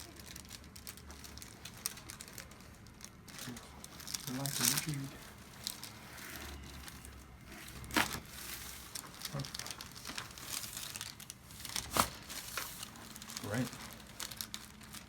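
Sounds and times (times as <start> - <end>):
soft rustling: 0.2 - 15.0.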